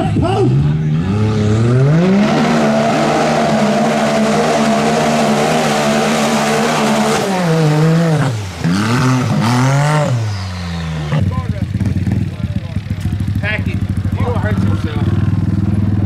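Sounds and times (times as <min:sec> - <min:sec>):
tires churning through mud: 0:00.0 - 0:16.0
utv engine revving: 0:00.0 - 0:16.0.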